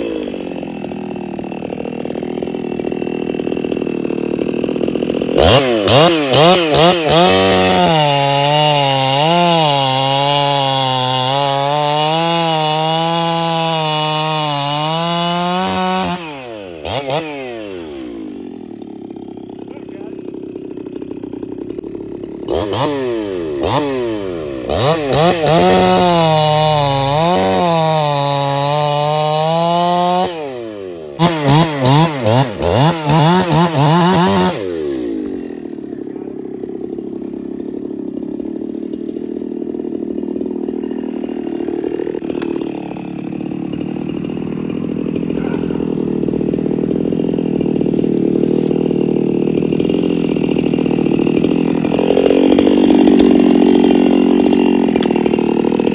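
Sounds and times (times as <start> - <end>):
chainsaw cutting log: 0.0 - 55.9.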